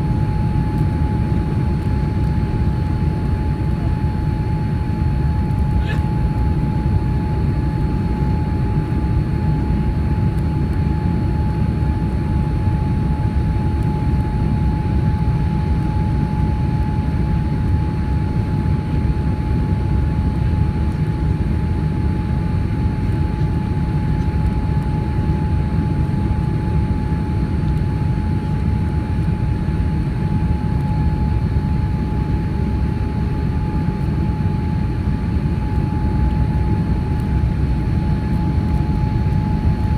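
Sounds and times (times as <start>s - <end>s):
aircraft engine and airflow rumble: 0.0s - 39.9s.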